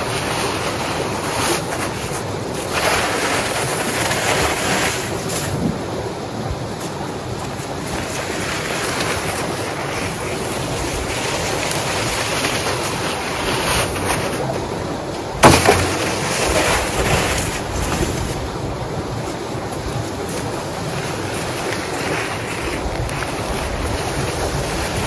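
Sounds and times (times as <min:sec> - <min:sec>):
snow scraping across pavement: 0:00.0 - 0:05.8, 0:06.7 - 0:25.0
wind on microphone: 0:00.0 - 0:25.0.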